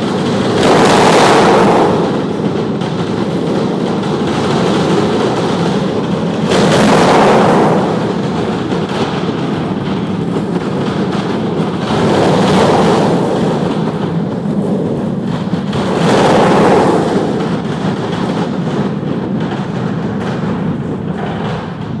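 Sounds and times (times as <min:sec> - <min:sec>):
aircraft engine rushing: 0:00.0 - 0:17.9.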